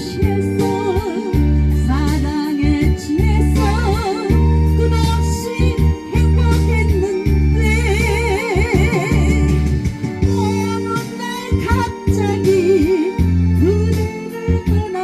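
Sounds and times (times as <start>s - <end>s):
bass and keyboard backing: 0.0s - 15.0s
trot song with vibrato vocals: 0.0s - 15.0s.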